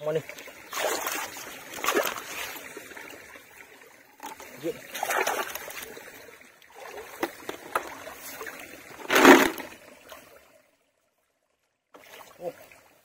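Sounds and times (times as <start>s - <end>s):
muddy water sloshing and splashing: 0.0s - 10.6s, 12.0s - 13.0s.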